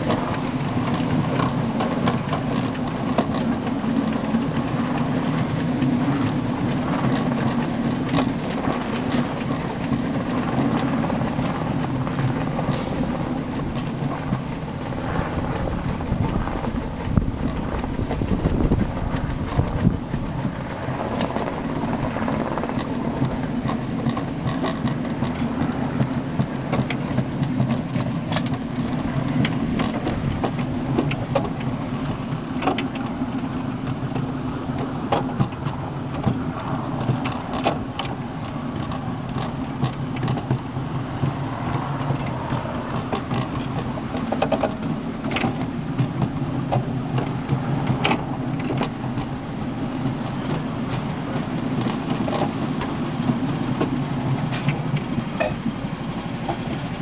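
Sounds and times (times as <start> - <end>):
clicks and knocks over track: 0.0 - 49.4
wheels rumbling on rails: 0.0 - 57.0.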